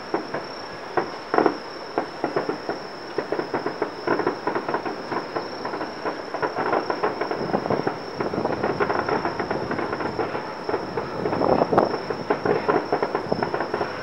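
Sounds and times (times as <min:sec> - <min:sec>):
fireworks popping and crackling: 0:00.0 - 0:14.0
high-pitched insect trill: 0:00.0 - 0:14.0
loud firework bang: 0:01.0 - 0:14.0.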